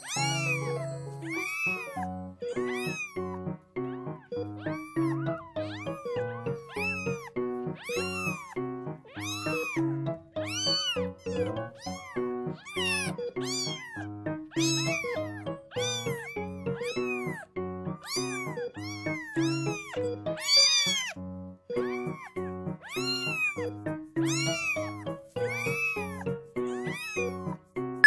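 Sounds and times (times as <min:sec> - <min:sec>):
kitten meowing: 0:00.0 - 0:21.2, 0:21.8 - 0:27.6
background music: 0:00.0 - 0:28.0.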